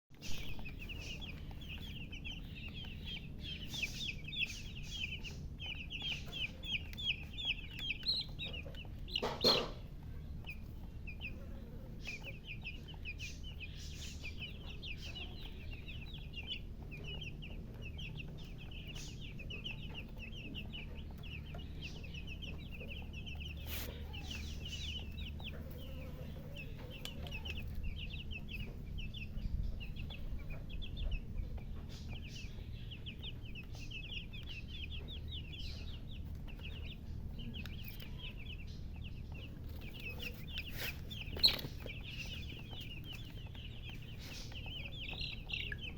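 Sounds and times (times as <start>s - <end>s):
baby chicks peeping: 0.1s - 45.9s.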